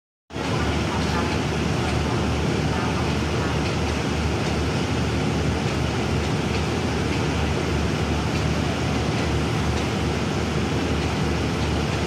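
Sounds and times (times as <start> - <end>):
locomotive engine idling: 0.4 - 12.0.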